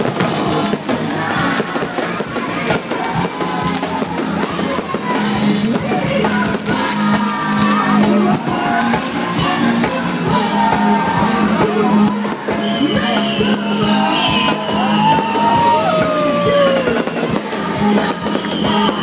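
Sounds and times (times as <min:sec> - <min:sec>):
loud music with drums and singing: 0:00.0 - 0:19.0.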